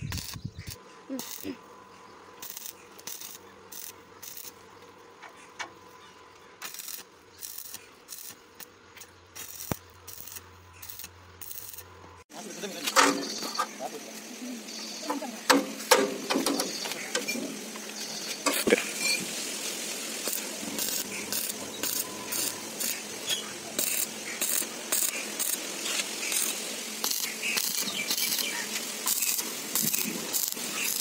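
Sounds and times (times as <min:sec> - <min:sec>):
welding arc crackling: 0:00.0 - 0:01.6, 0:02.3 - 0:05.0, 0:05.7 - 0:13.9, 0:15.1 - 0:31.0.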